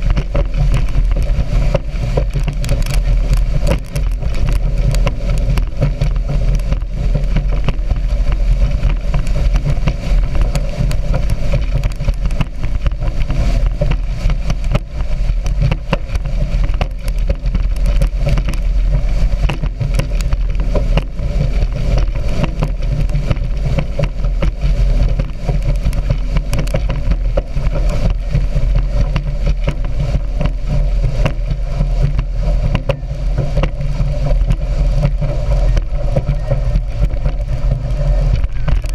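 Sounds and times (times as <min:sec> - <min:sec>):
rushing water noise: 0:00.0 - 0:38.9
short crackles: 0:00.0 - 0:38.9
speedboat engine rumble: 0:00.0 - 0:38.9.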